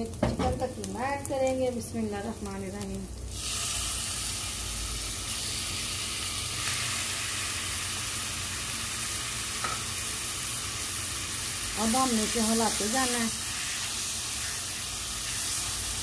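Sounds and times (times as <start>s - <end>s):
meat sizzling in frying pan: 0.0s - 16.0s.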